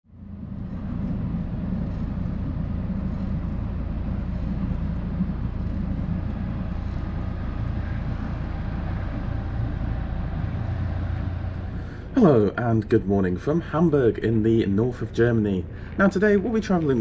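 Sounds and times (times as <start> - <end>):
railway rumble: 0.0 - 17.0
distant traffic: 0.1 - 17.0.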